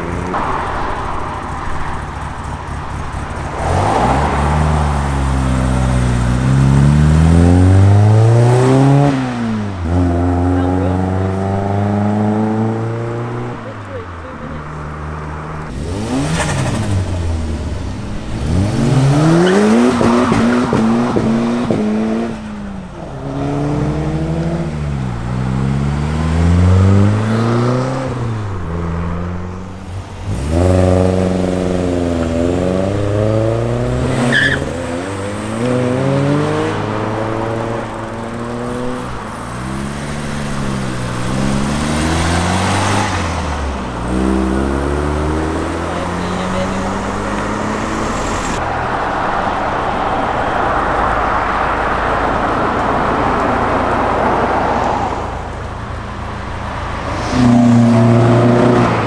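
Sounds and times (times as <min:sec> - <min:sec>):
cars accelerating hard: 0:00.0 - 0:59.0.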